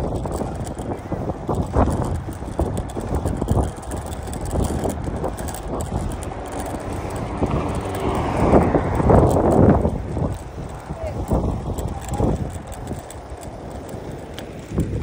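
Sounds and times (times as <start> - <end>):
bike rattles: 0.0 - 15.0
bike tyre hum: 0.0 - 15.0
wind buffeting microphone: 0.0 - 15.0.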